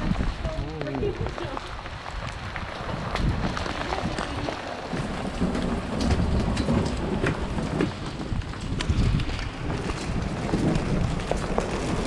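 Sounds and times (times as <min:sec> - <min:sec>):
raindrops and hail ticking: 0:00.0 - 0:12.0
wind buffeting microphone: 0:00.0 - 0:12.0.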